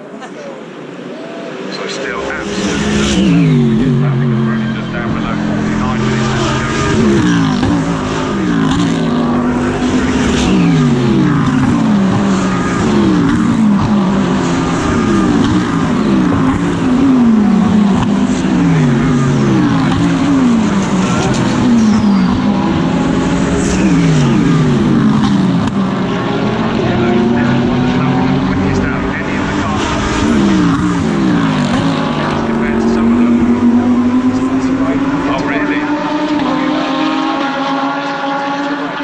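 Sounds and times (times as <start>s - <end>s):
race cars passing by: 0.0s - 39.0s.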